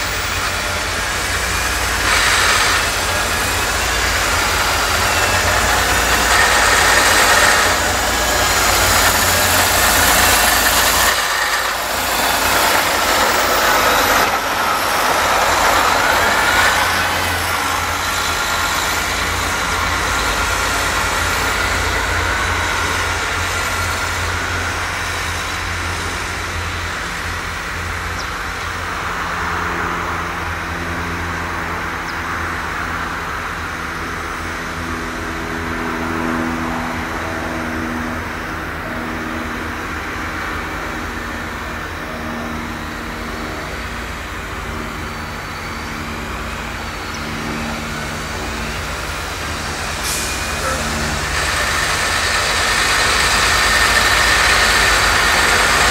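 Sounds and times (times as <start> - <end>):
diesel tractor engine under load: 0.0 - 55.9.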